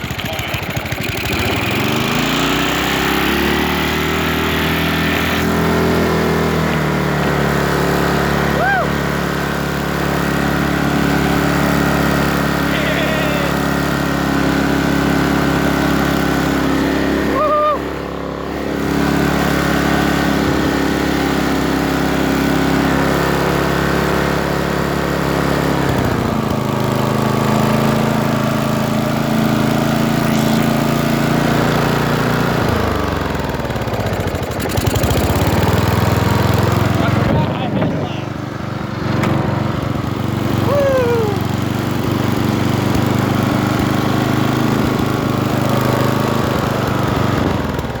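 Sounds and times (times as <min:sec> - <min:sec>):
riding lawnmower engine running: 0:00.0 - 0:48.0.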